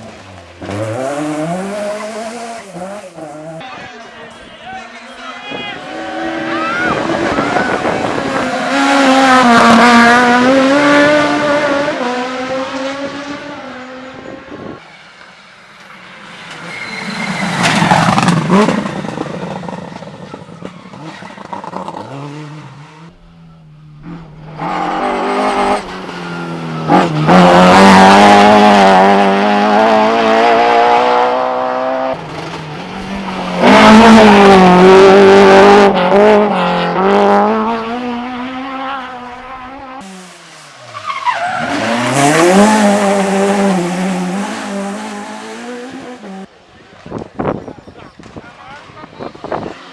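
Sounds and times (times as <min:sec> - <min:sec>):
race car engines revving past: 0:00.0 - 0:03.9, 0:05.5 - 0:47.6.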